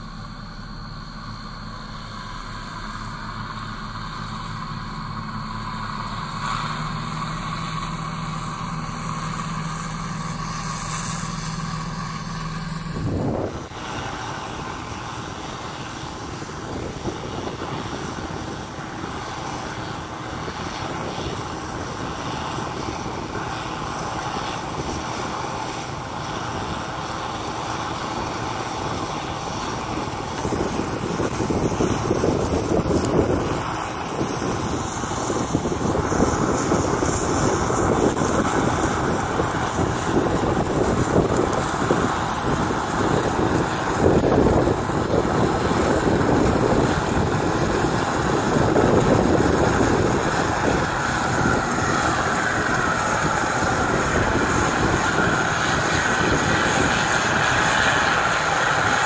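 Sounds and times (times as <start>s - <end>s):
combine cutting wheat drone: 0.0s - 59.0s
combine harvester engine hum: 0.0s - 59.0s.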